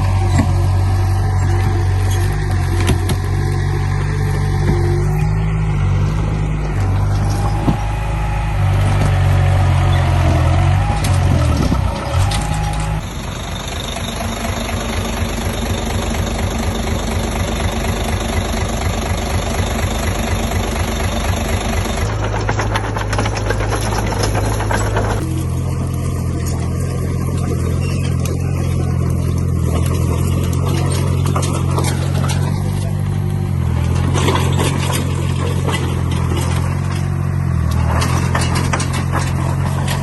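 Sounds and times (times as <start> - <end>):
heavy diesel engines running: 0.0 - 40.0.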